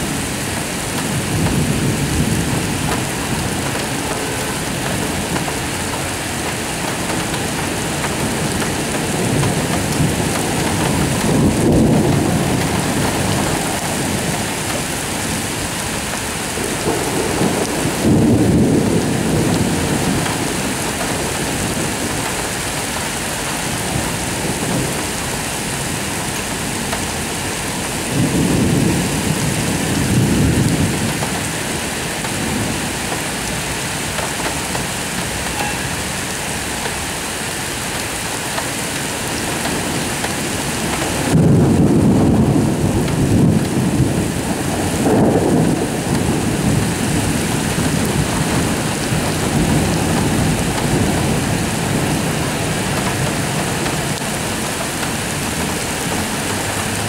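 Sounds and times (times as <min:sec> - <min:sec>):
steady rain falling: 0:00.0 - 0:57.0
thunder rumbling: 0:00.0 - 0:57.0.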